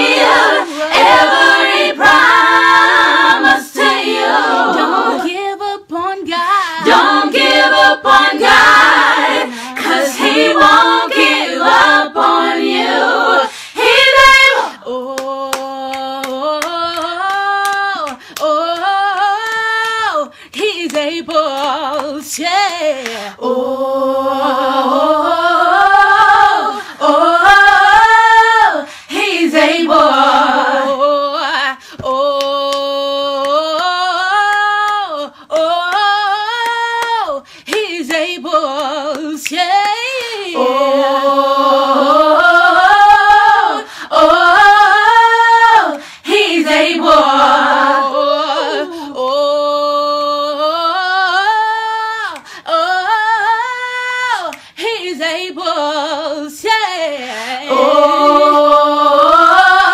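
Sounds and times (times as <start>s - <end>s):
woman singing gospel harmony: 0.0s - 59.9s.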